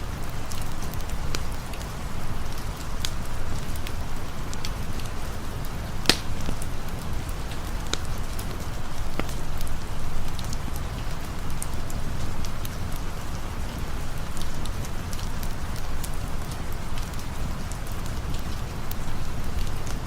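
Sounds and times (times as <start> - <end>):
campfire crackling and popping: 0.0 - 20.0
steady rain: 0.0 - 20.0.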